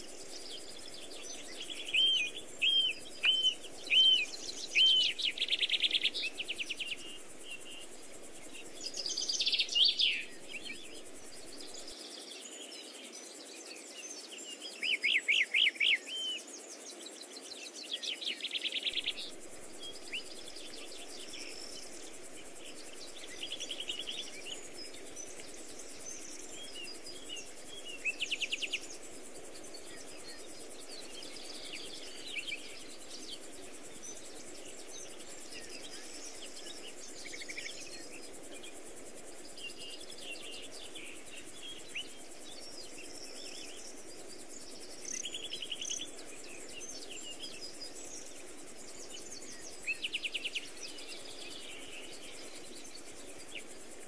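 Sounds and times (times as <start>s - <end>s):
songbirds trilling: 0.0s - 12.6s, 17.0s - 54.0s
faint outdoor background noise: 0.0s - 54.0s.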